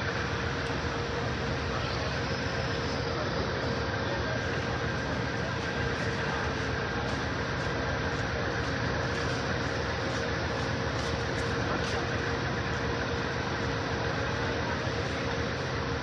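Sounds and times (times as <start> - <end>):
passenger train hum and rumble: 0.0 - 16.0.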